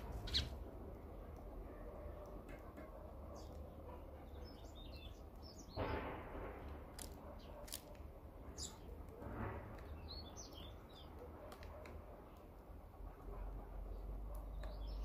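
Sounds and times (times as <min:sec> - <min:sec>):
small birds chirping: 0:00.0 - 0:05.9, 0:07.0 - 0:09.1, 0:09.7 - 0:15.0.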